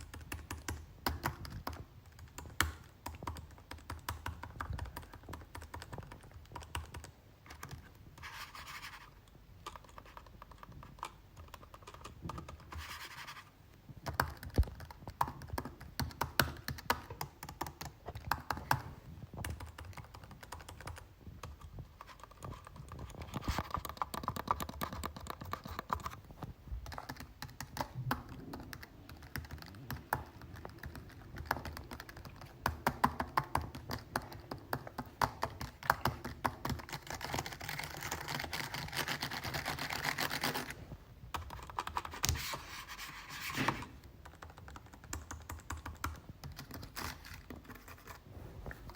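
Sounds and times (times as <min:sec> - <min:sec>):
keyboard typing: 0:00.0 - 0:40.7, 0:41.3 - 0:48.2.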